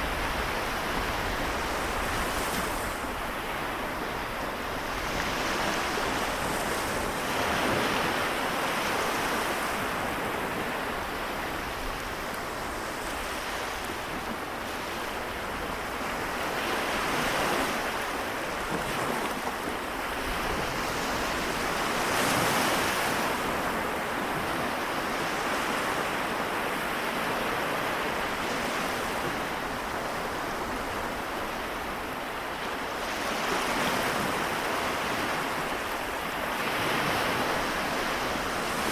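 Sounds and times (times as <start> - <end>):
small waves washing onto shore: 0.0 - 38.9
wind on microphone: 0.0 - 38.9.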